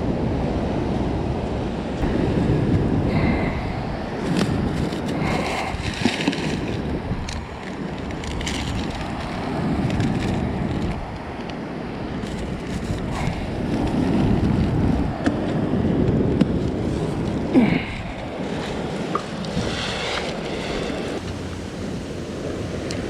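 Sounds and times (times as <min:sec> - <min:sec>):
wind buffeting microphone: 0:00.0 - 0:23.0
surf washing onto beach: 0:02.0 - 0:23.0.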